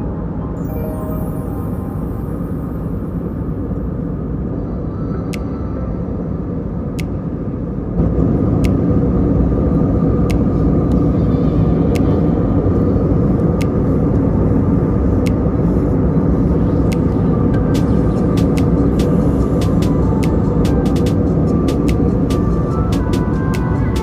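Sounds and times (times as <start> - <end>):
airliner cabin roar: 0.0 - 24.0.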